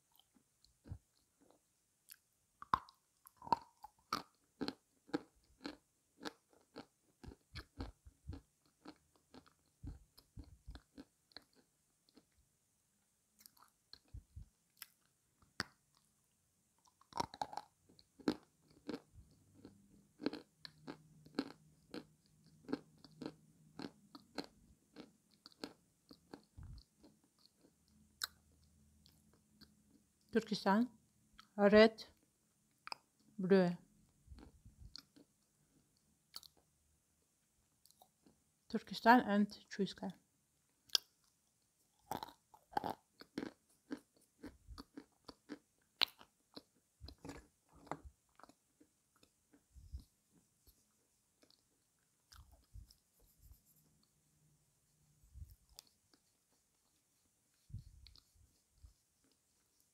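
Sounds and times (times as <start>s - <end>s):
clay crunching while chewed: 0.0s - 12.4s, 13.4s - 16.1s, 16.8s - 30.1s, 34.2s - 36.7s, 40.8s - 54.2s, 55.3s - 59.9s.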